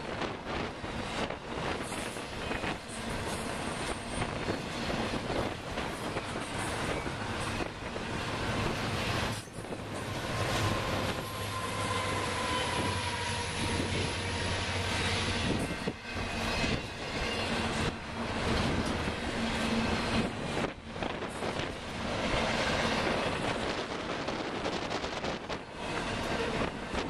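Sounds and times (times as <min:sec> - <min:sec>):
diesel locomotive engines humming: 0:00.0 - 0:27.0
train wheels rolling on rails: 0:00.0 - 0:27.0.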